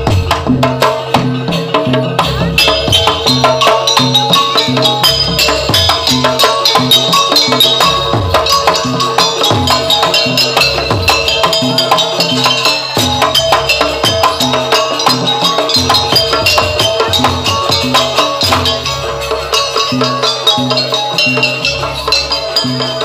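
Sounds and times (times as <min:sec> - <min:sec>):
gamelan ensemble music: 0:00.0 - 0:23.0.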